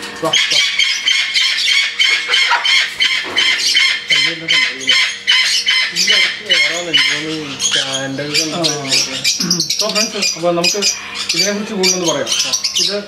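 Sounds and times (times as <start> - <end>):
parrot squawking: 0.3 - 13.0.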